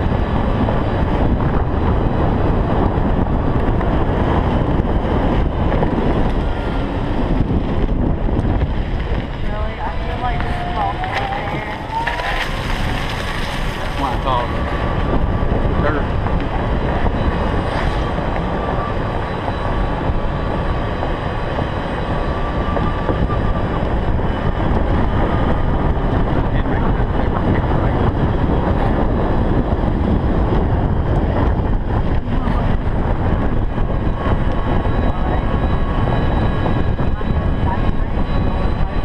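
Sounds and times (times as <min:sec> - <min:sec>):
golf cart rumbling on pavement: 0:00.0 - 0:39.0.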